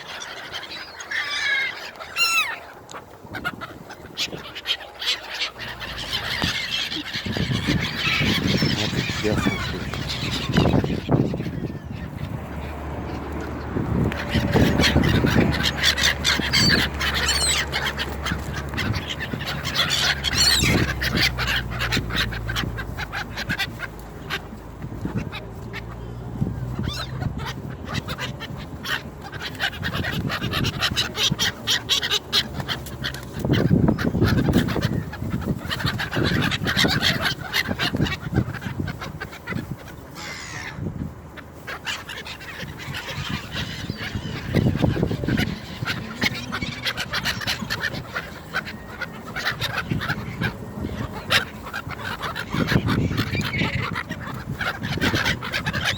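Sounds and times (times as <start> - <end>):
gulls squawking: 0.0 - 55.9.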